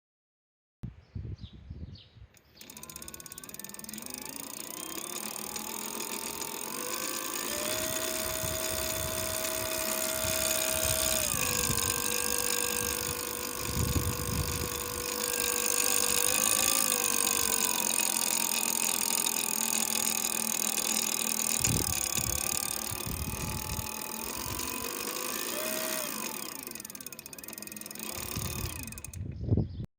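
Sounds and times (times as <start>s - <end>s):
electric bike motor whine: 2.5s - 29.2s.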